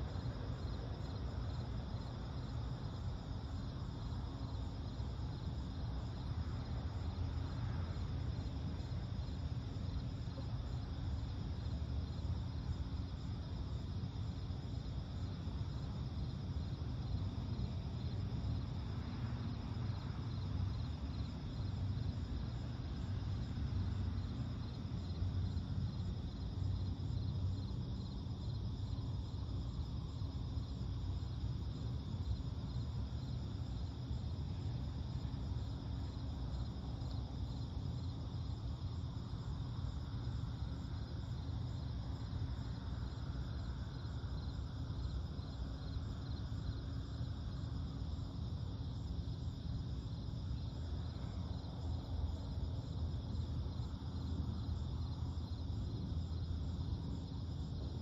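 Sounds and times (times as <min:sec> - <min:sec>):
constant low rumble: 0:00.0 - 0:58.0
crickets trilling: 0:00.0 - 0:58.0.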